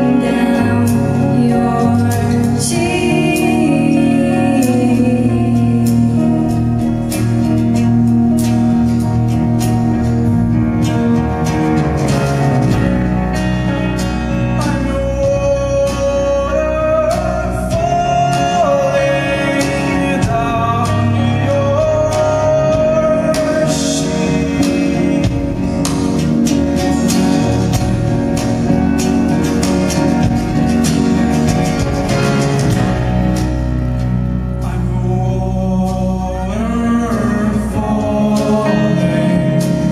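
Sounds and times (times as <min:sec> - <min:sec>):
person singing: 0:00.0 - 0:09.2, 0:13.3 - 0:33.4, 0:34.4 - 0:39.9
strummed acoustic guitar: 0:00.0 - 0:39.9.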